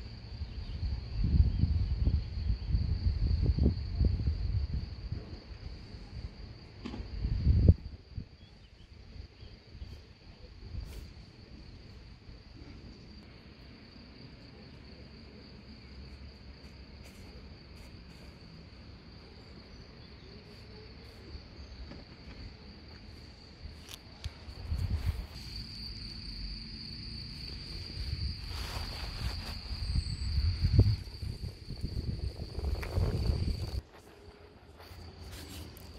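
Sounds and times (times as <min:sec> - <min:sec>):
insects chirring: 0:00.0 - 0:35.9.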